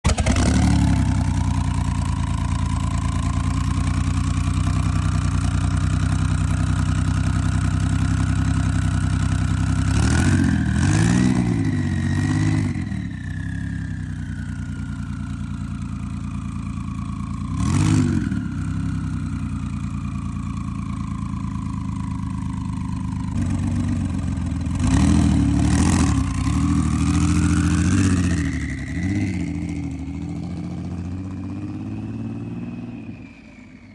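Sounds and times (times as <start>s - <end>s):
sports car engine idling and revving: 0.1s - 33.9s.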